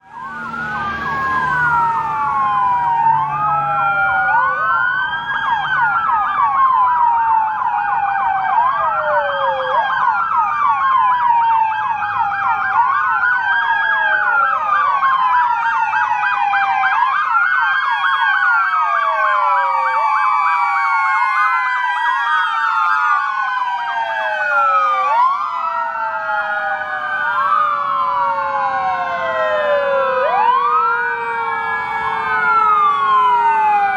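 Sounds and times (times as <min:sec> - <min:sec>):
emergency sirens wailing: 0:00.0 - 0:33.9.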